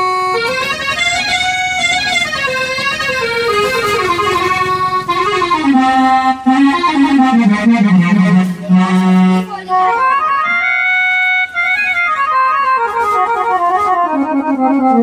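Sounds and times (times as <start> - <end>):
electronic keyboard notes: 0.0 - 15.0.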